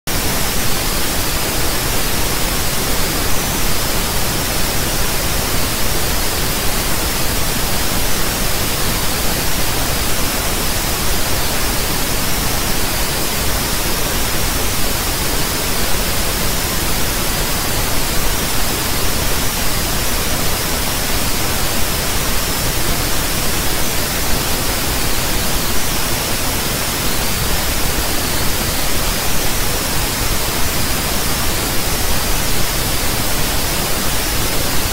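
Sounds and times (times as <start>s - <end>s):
loud static hiss: 0.1s - 34.9s.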